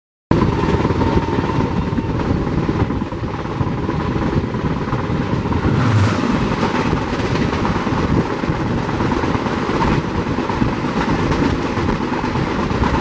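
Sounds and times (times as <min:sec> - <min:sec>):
train wheels rumbling on rails: 0:00.3 - 0:13.0.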